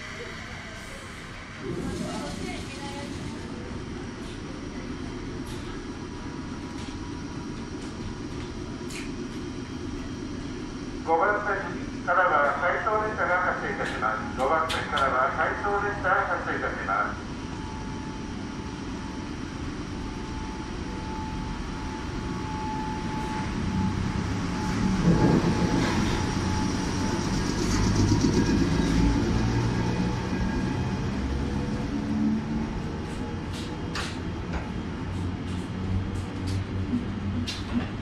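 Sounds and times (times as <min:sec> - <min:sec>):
electric locomotive rumbling: 0:00.0 - 0:38.0.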